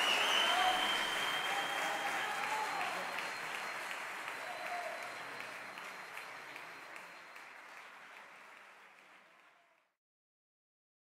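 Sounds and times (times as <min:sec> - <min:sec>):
applause: 0:00.0 - 0:10.0.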